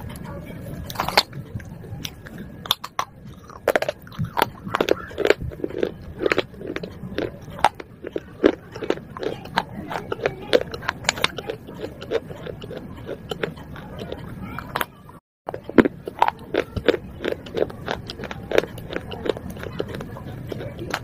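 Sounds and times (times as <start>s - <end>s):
person crunching clay pot pieces: 0.9s - 1.3s, 2.0s - 21.0s.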